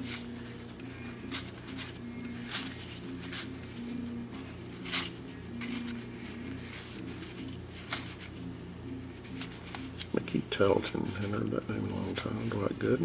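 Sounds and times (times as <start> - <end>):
cardboard cards swishing: 0.0 - 13.0
steady low hum: 0.0 - 13.0.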